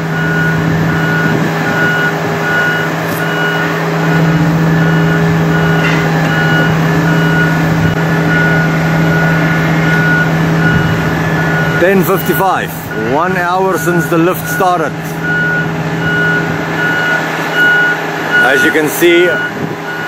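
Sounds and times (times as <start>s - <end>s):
diesel engine running: 0.0s - 20.0s
travel alarm beeping: 0.1s - 20.0s.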